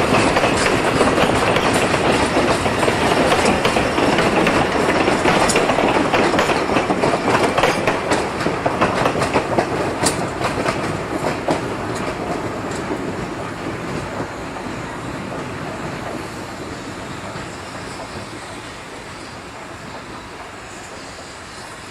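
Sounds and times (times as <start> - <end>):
train wheels clacking over rail joints: 0.0 - 21.9.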